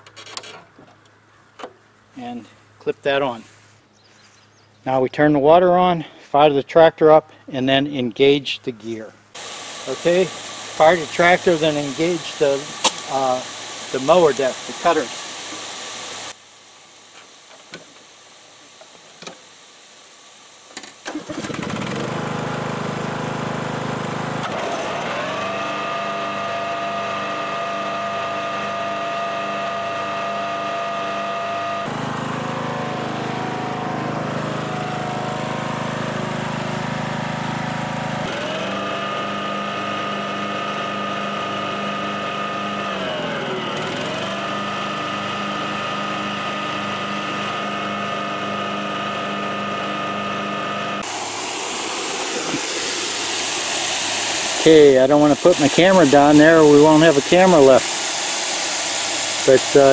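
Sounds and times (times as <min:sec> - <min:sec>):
riding mower engine running: 0:07.3 - 0:16.4, 0:20.7 - 0:59.9
mower deck whine: 0:08.9 - 0:19.6, 0:20.6 - 0:59.9.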